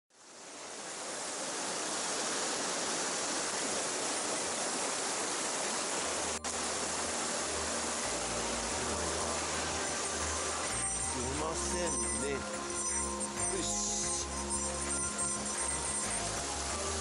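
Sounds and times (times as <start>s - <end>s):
stream water flowing: 0.1s - 17.0s.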